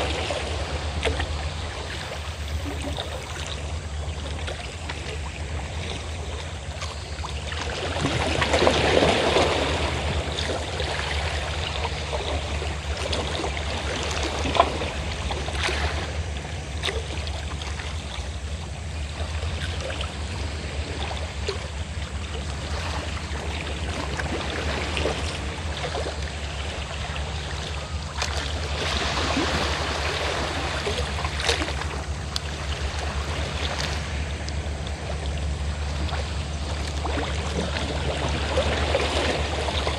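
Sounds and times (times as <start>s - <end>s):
boat engine drone: 0.0s - 39.9s
sea waves breaking on shore: 0.0s - 39.9s
small water splashes: 0.0s - 39.9s.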